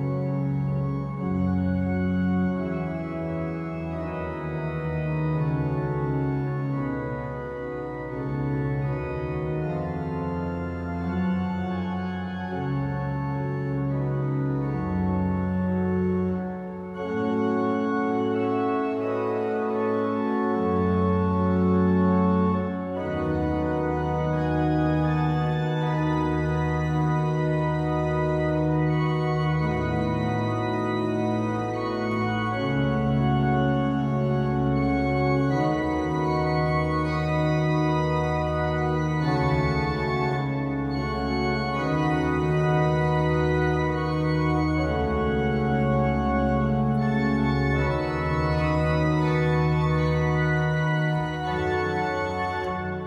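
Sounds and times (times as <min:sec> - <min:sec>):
pipe organ playing slow chords: 0:00.0 - 0:53.0.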